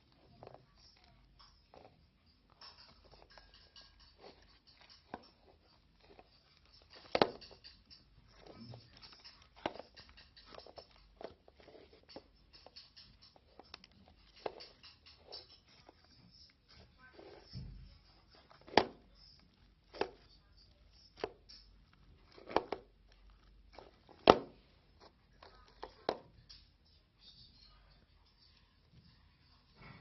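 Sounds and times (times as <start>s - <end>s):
small taps and clicks of handling: 0.0s - 26.7s.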